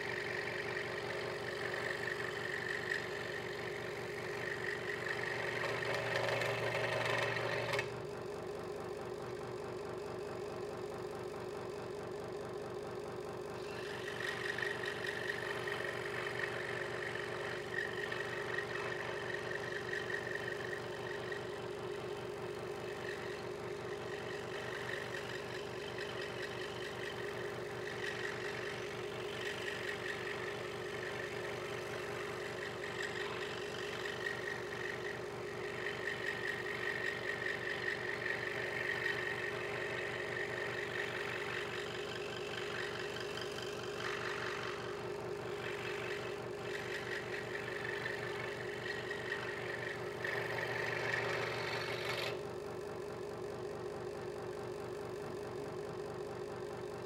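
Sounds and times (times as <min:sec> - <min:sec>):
scroll saw cutting wood: 0:00.0 - 0:08.0, 0:13.5 - 0:52.5.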